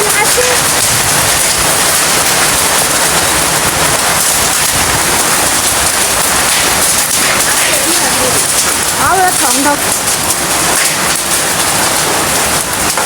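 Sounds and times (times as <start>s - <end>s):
heavy rain and hail: 0.0s - 13.0s.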